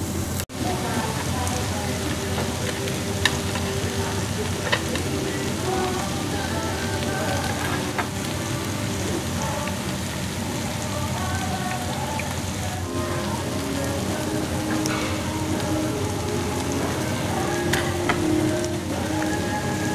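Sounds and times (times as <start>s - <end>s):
meat sizzling on grill: 0.2s - 19.9s.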